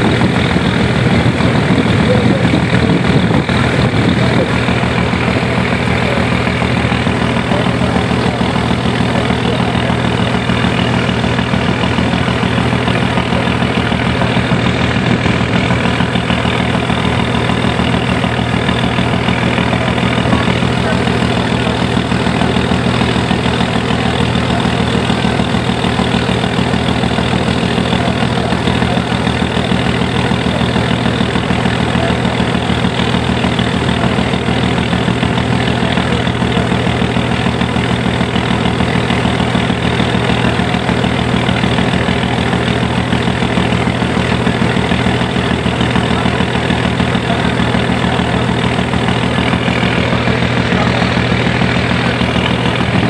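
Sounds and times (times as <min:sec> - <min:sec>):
boat engine running: 0:00.0 - 0:53.0
water churning along hull: 0:00.0 - 0:53.0.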